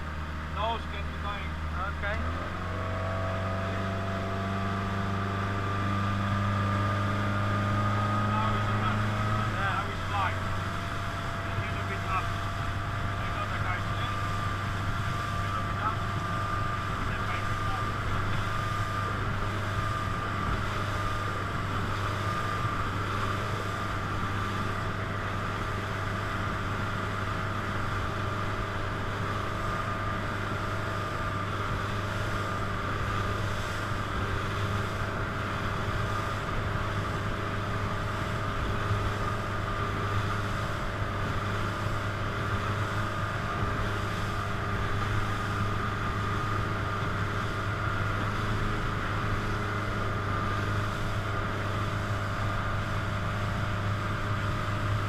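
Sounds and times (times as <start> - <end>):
motorboat engine running: 0.0 - 55.0.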